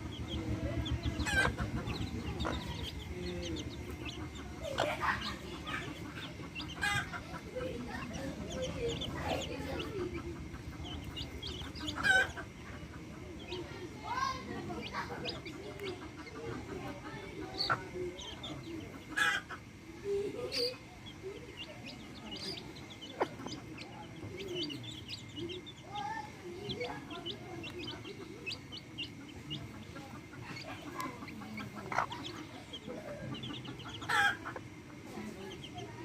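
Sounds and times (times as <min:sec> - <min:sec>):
chicks peeping: 0:00.0 - 0:36.0
hens clucking: 0:00.0 - 0:36.0.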